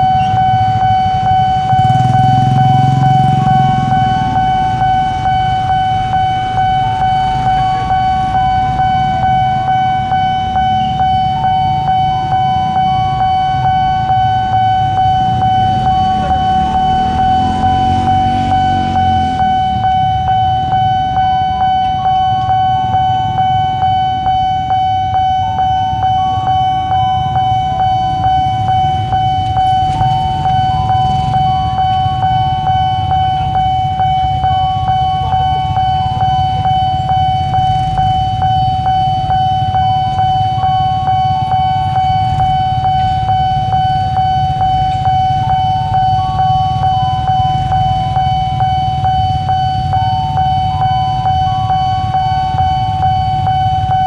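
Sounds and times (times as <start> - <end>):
level crossing warning alarm: 0.0 - 54.0
road traffic rumble: 0.0 - 54.0.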